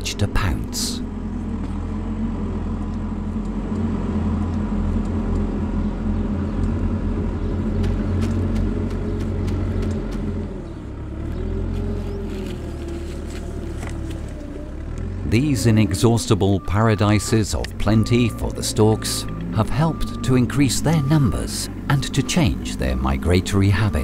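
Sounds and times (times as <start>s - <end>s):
heavy vehicle engine rumbling: 0.0s - 24.0s.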